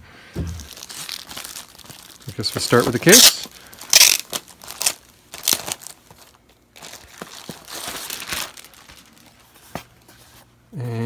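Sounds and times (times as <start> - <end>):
plastic bag crinkling: 0.5 - 9.7.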